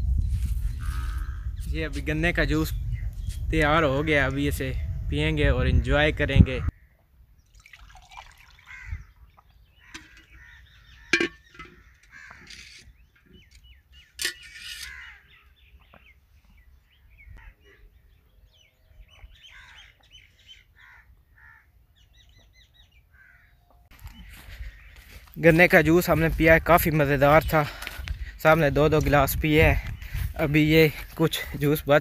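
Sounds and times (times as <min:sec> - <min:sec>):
birds calling: 0:00.3 - 0:05.1, 0:08.2 - 0:32.0.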